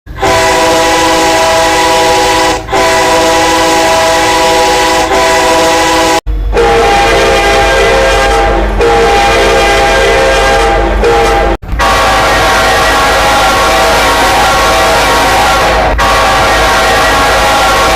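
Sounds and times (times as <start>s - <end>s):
train air horn chord blasts: 0.1s - 17.9s.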